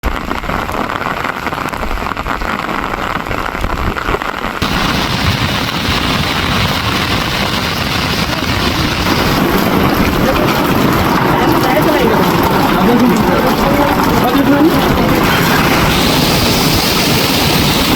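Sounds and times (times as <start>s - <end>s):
heavy rain falling: 0.0s - 17.9s.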